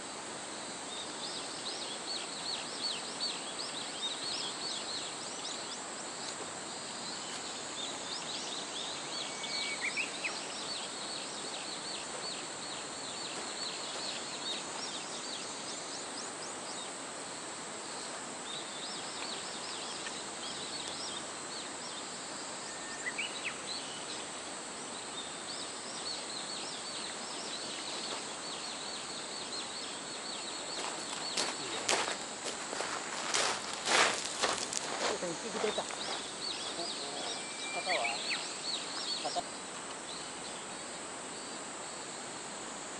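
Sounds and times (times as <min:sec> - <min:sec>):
small birds chirping: 0:00.8 - 0:41.8.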